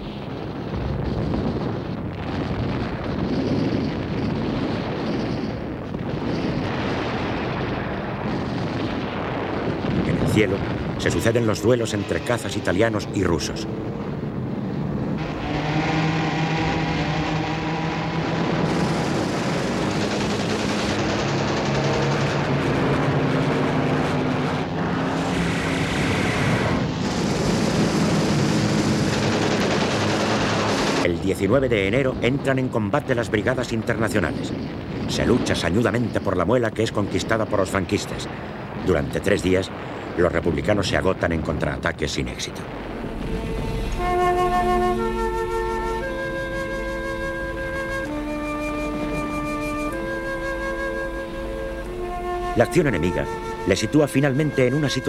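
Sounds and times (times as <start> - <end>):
distant artillery fire rumble: 0.0 - 15.4, 18.2 - 55.0
propeller aircraft engines droning: 0.0 - 40.2, 42.4 - 55.0.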